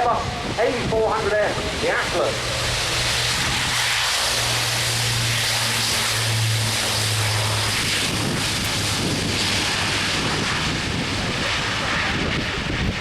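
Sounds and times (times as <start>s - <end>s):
turboprop engines roaring: 0.0s - 13.0s.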